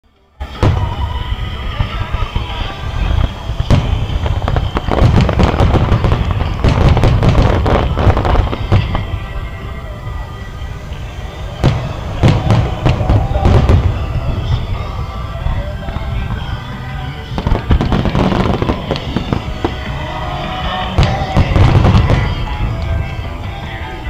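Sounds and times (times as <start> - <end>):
fireworks bangs and crackling: 0.4 - 24.0.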